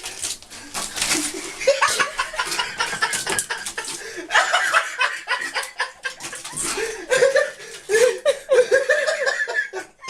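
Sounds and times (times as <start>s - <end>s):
people laughing: 1.3s - 10.0s.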